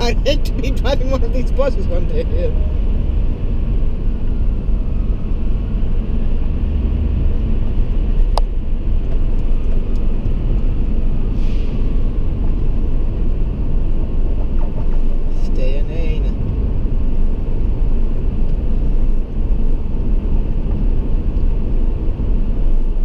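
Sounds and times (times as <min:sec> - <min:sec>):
road noise inside car: 0:00.0 - 0:23.0.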